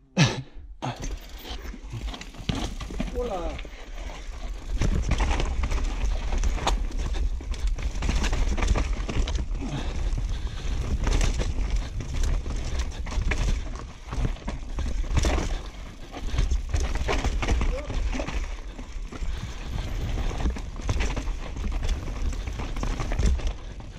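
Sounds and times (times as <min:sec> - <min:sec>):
bike rattling over rocks: 0:00.9 - 0:23.9.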